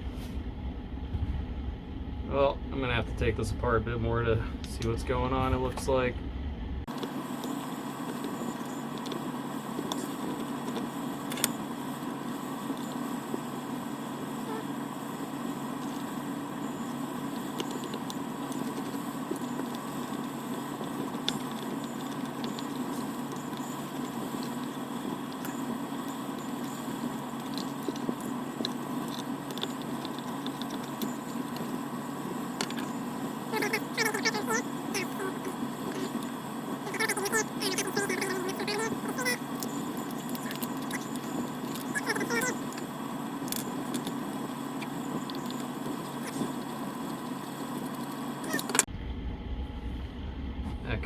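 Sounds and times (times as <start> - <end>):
mechanical hum and whir: 0.0 - 51.0.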